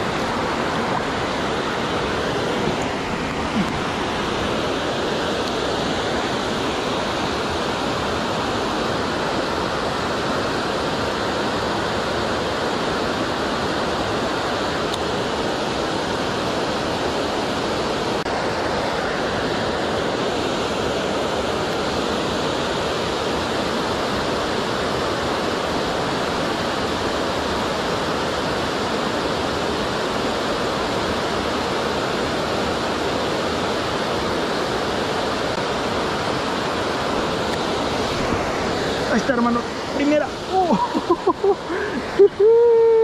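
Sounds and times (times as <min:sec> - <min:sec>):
water rushing over spillway: 0:00.0 - 0:43.0.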